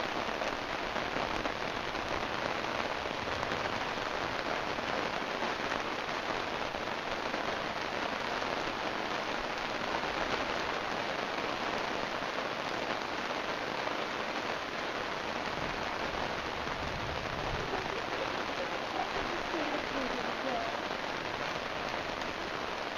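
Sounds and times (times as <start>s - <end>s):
heavy rain falling: 0.0s - 22.9s.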